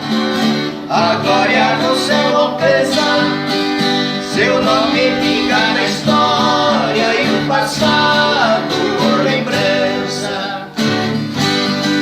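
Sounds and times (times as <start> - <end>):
acoustic guitar: 0.0 - 12.0
duo singing: 0.5 - 11.2.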